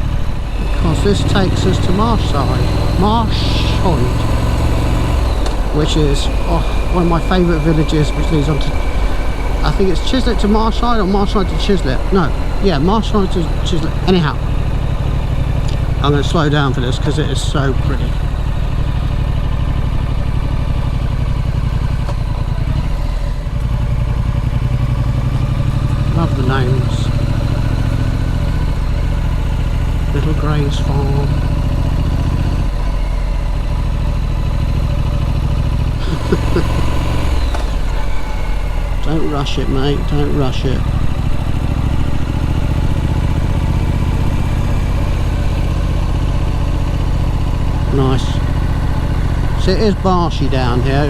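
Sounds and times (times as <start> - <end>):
motorcycle engine low throb: 0.0 - 51.0.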